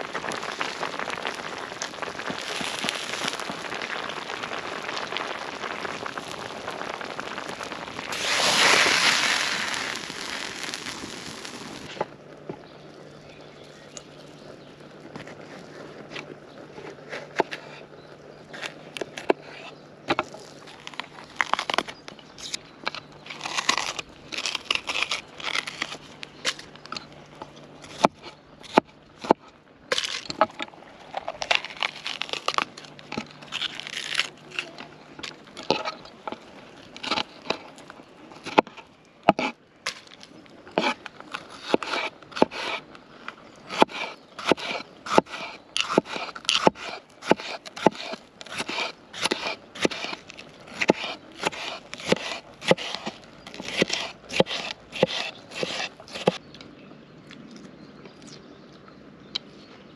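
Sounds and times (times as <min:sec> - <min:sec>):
pepper flesh crackling and crunching: 0:00.0 - 0:12.0, 0:20.2 - 0:38.8, 0:39.4 - 0:58.9.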